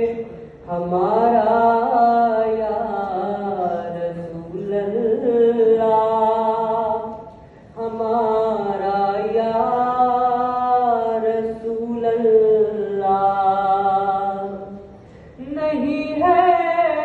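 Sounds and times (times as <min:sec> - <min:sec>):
boy singing into a microphone: 0:00.0 - 0:17.0.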